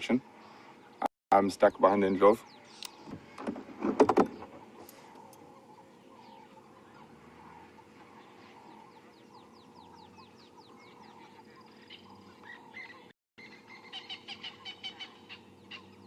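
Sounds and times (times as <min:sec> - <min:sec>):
faint low hum: 0:00.0 - 0:16.0
birds whistling: 0:01.6 - 0:16.0
sharp repeated bird calls: 0:01.6 - 0:16.0.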